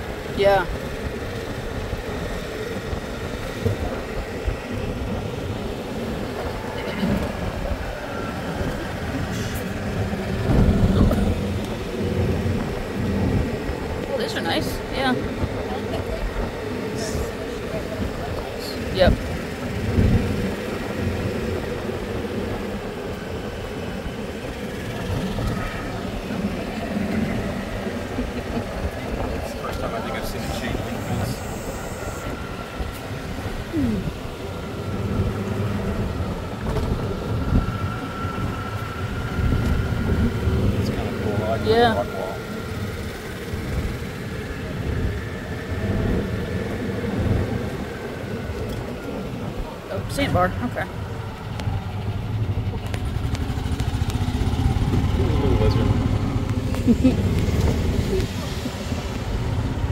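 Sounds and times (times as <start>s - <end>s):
golf cart rumbling on road: 0.0s - 59.9s
wind: 0.0s - 59.9s.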